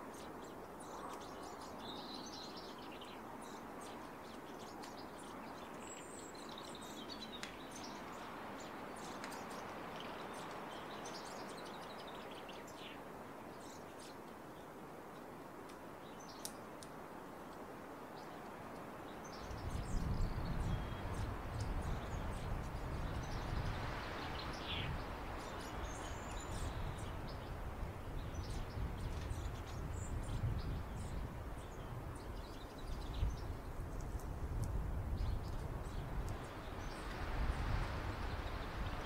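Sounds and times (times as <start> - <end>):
songbirds chirping: 0.0 - 39.0.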